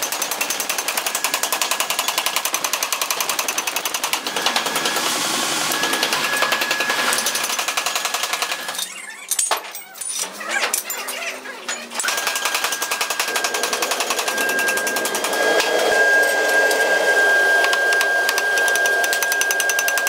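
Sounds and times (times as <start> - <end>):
machinery clatter: 0.0 - 16.9
steady high whine: 0.1 - 8.8, 12.0 - 20.0.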